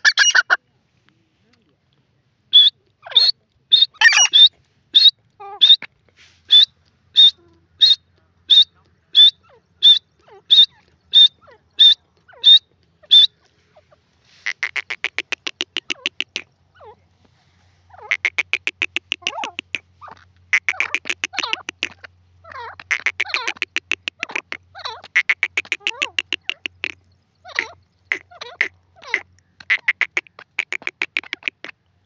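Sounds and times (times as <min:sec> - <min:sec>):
francolin calling: 0:02.5 - 0:05.9, 0:06.5 - 0:17.0, 0:17.9 - 0:31.8.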